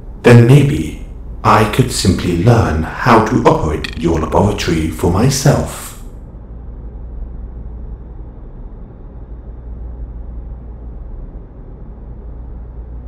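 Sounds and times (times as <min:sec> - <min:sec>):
laboratory machinery drone: 0:00.0 - 0:13.0.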